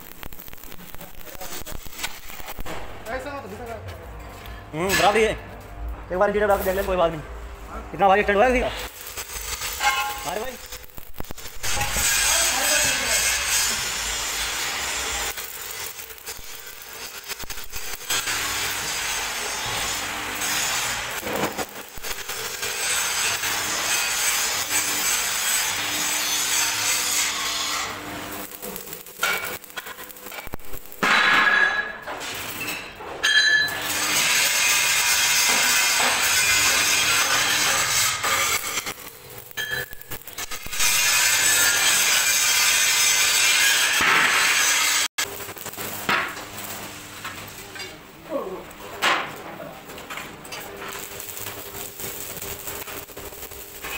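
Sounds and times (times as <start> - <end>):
arc welding crackling hiss: 0.0 - 3.7, 6.1 - 32.8, 33.7 - 48.0, 49.7 - 53.9
workshop clatter: 1.3 - 53.9.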